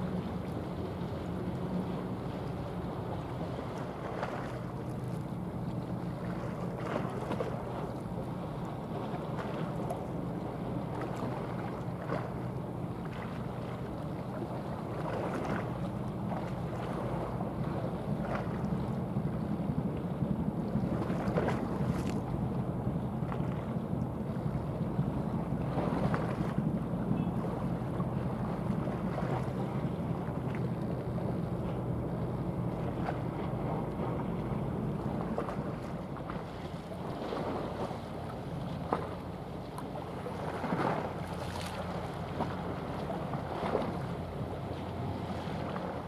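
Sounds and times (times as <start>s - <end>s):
water noise: 0.0s - 46.0s.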